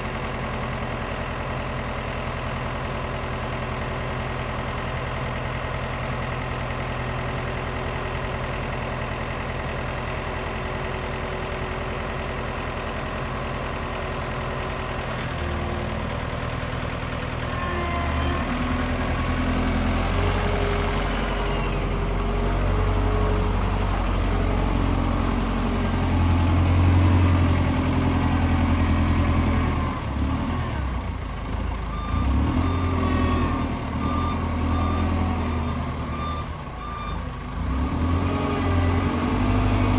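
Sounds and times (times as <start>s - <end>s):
forklift engine idling and revving: 0.0s - 39.9s.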